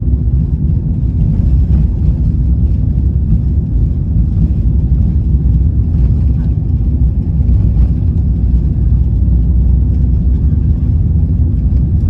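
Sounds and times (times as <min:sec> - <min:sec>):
airplane rumble in flight: 0:00.0 - 0:12.0.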